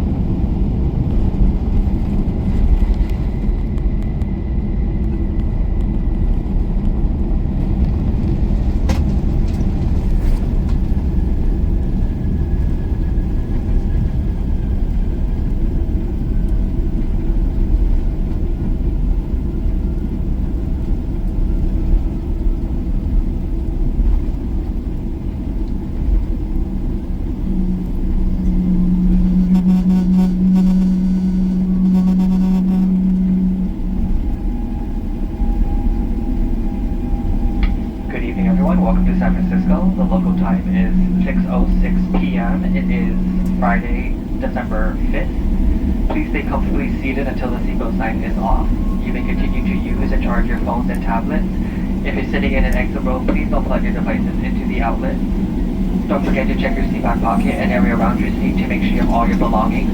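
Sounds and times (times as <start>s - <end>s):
engine and airflow rumble: 0.0s - 59.9s
steady low hum: 0.0s - 59.9s.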